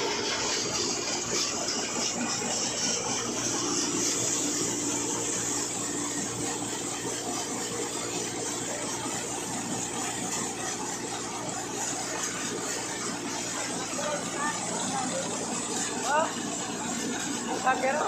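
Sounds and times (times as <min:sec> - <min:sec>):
threshing machine whirring: 0:00.0 - 0:18.0
tractor engine hum: 0:00.0 - 0:18.0.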